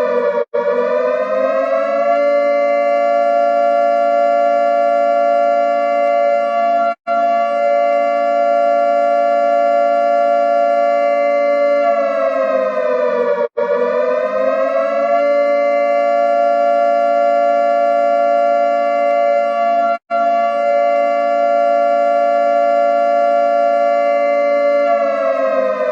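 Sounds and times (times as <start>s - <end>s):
emergency alert alarm tone: 0.0s - 25.9s.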